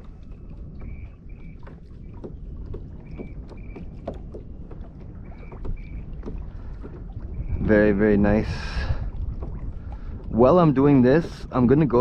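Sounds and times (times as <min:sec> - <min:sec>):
light ticks and splashes: 0:00.0 - 0:12.0
low rumble of water and wind: 0:00.0 - 0:12.0.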